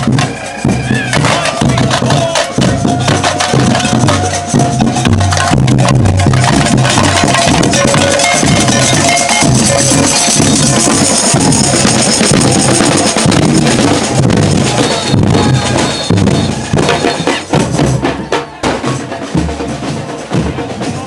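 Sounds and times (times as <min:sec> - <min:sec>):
marching drum band: 0:00.0 - 0:21.0.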